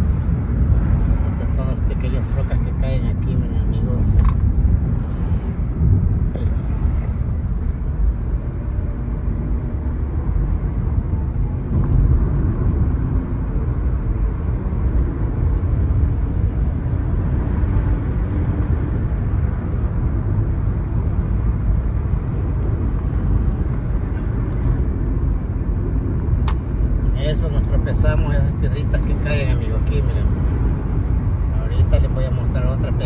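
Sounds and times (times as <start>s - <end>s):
car engine running: 0.0s - 33.0s
tyre and road noise: 0.0s - 33.0s.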